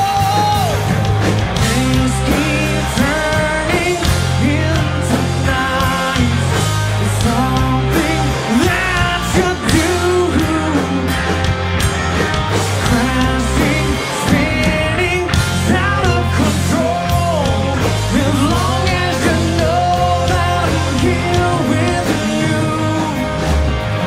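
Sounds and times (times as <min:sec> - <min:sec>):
person singing: 0:00.0 - 0:11.4, 0:12.7 - 0:24.0
live rock band playing: 0:00.0 - 0:24.0.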